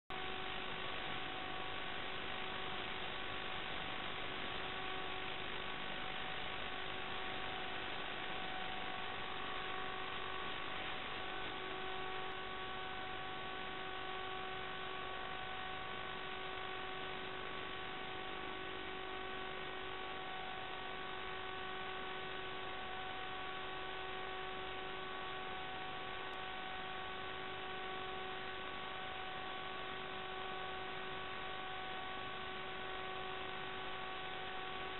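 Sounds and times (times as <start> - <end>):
electronic hiss: 0.1 - 34.9.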